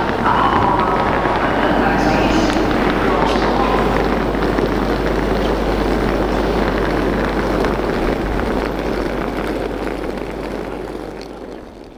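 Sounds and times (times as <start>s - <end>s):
constant low hum: 0.0s - 11.9s
railway station ambience: 0.0s - 11.9s.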